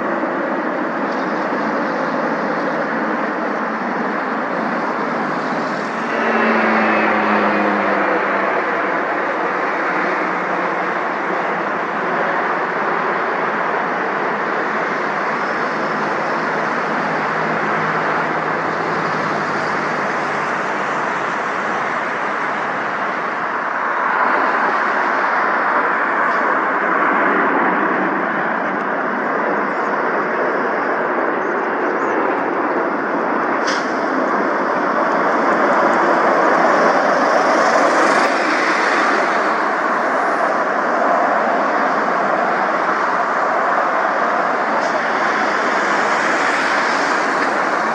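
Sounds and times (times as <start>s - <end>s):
jet airliner engines running: 0.0s - 47.9s.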